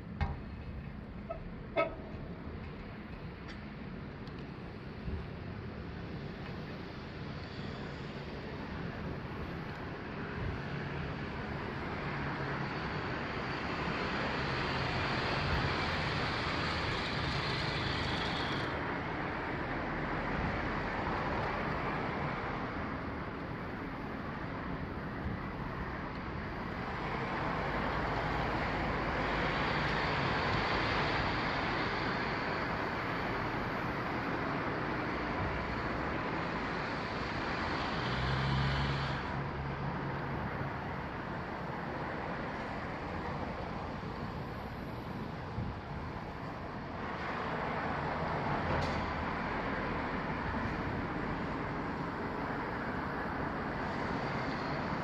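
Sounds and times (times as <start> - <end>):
hiss of passing vehicles: 4.3 - 55.0.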